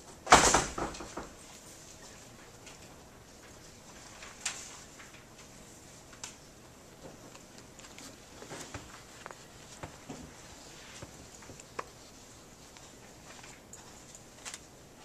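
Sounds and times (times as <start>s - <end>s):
paper rustling: 1.6s - 6.4s, 7.0s - 15.0s.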